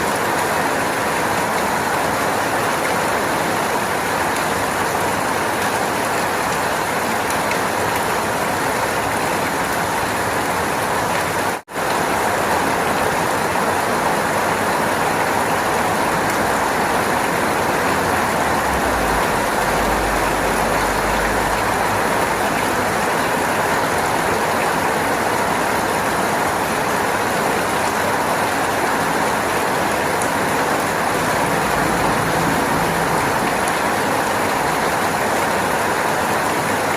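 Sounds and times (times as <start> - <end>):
dense rain: 0.0 - 36.9.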